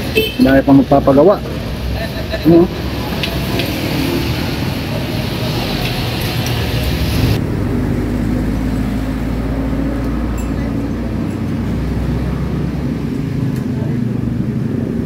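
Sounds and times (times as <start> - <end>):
street traffic noise: 0.0 - 15.0
low engine hum: 2.7 - 15.0.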